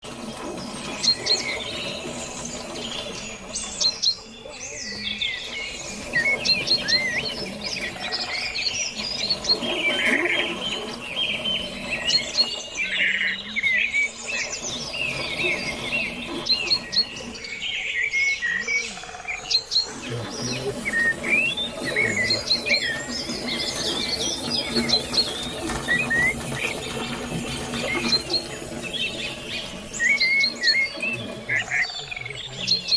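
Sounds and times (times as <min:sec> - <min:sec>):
wild birds chirping and calling: 0:00.0 - 0:32.9.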